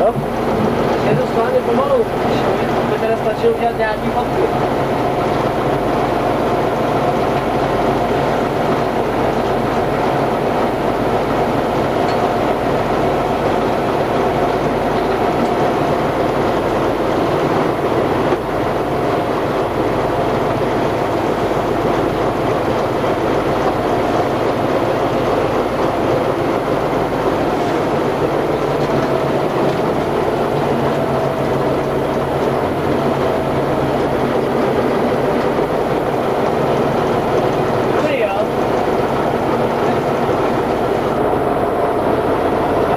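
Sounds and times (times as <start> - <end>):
truck diesel engine drone: 0.0 - 42.9.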